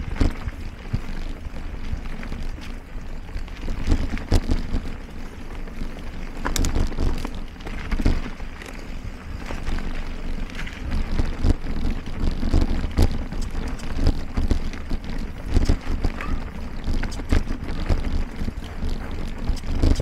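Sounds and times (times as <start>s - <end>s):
bike rattling over trail bumps: 0.0s - 20.0s
wind rumbling on microphone: 0.0s - 20.0s.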